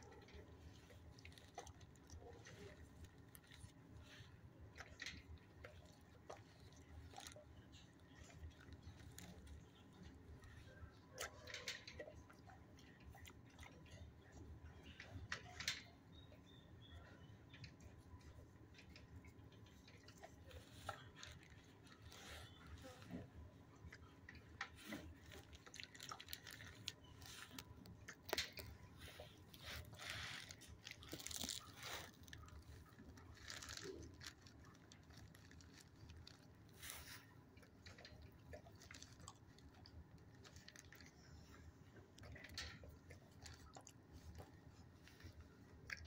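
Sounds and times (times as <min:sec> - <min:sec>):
dog chewing crunchy treat: 0:00.0 - 0:46.0.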